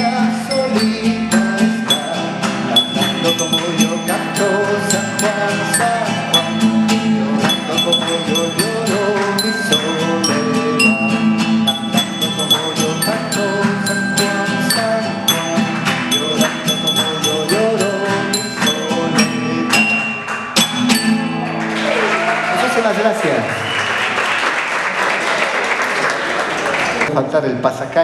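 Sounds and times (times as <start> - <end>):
live instrumental music: 0.0 - 22.7.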